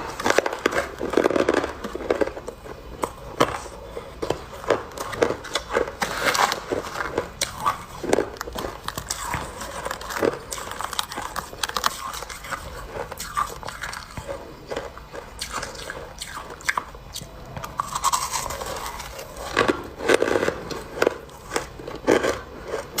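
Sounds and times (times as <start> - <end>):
ice crunching while chewed: 0.0 - 23.0.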